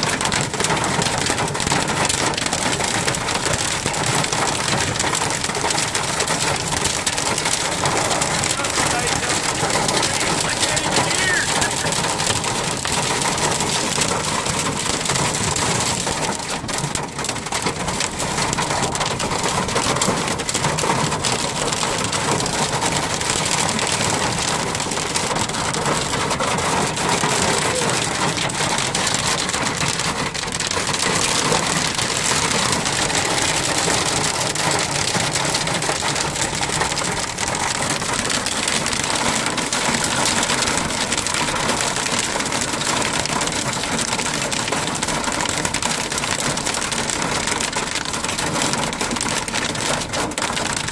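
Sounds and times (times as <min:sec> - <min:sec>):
hail pelting a vehicle roof: 0:00.0 - 0:50.9.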